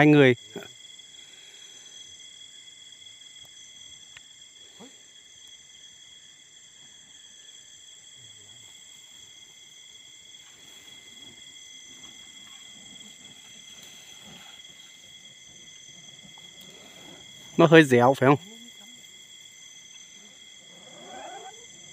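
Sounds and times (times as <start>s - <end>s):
night insects trilling: 0.0s - 21.9s.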